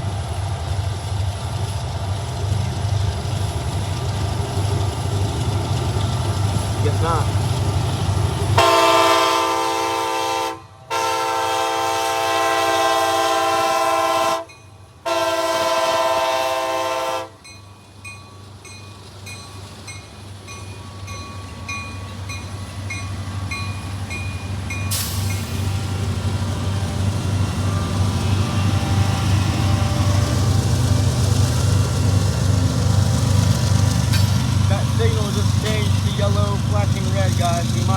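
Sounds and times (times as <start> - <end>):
low rumble of train: 0.0 - 37.9.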